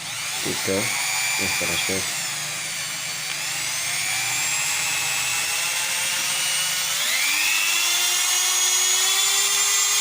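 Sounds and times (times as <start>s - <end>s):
rotary tool motor whine: 0.0s - 10.0s.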